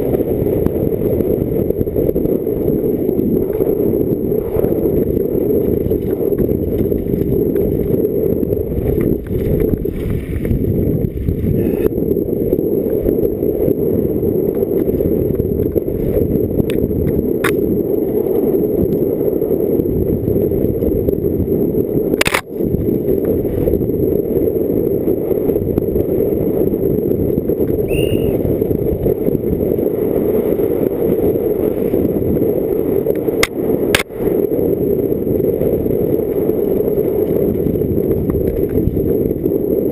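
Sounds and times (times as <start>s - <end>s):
mountain bike rumble and rattle: 0.0s - 39.9s
wind buffeting camera: 0.0s - 39.9s.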